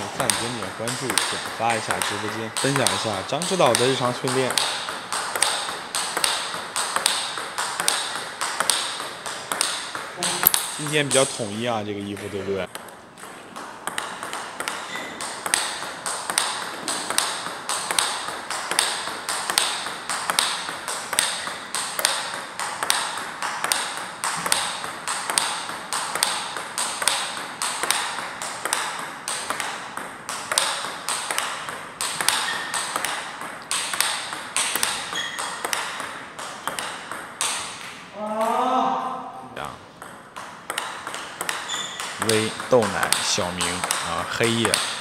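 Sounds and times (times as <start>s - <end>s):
ping pong ball clicking: 0.0s - 11.3s, 12.0s - 38.5s, 39.9s - 45.0s.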